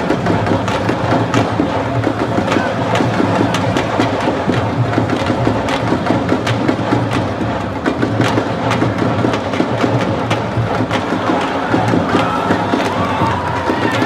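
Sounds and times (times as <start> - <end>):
dense background din: 0.0 - 14.0
fast percussion drumming: 0.0 - 14.0.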